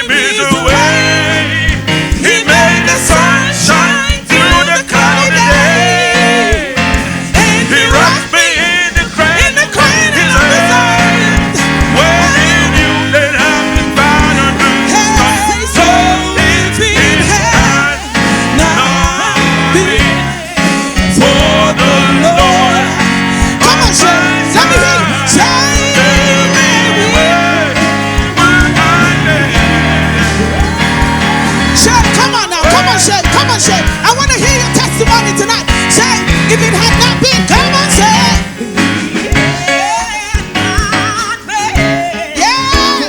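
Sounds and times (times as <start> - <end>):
band playing upbeat song: 0.0 - 43.0
voices singing: 0.0 - 43.0.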